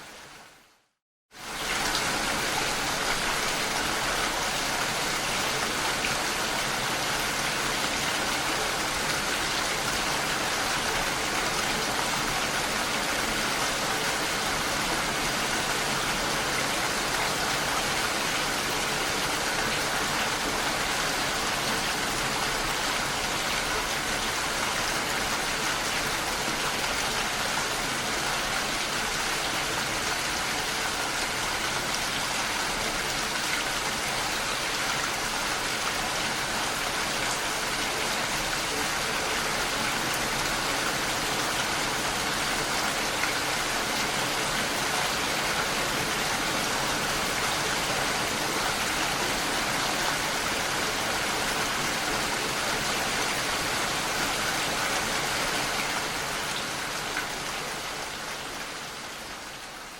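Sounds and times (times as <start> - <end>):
heavy rain falling: 1.4 - 59.9.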